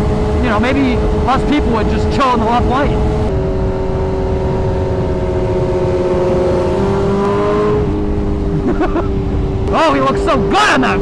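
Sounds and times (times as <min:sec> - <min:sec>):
motorcycle engine cruising: 0:00.0 - 0:11.0
wind on microphone: 0:00.0 - 0:11.0.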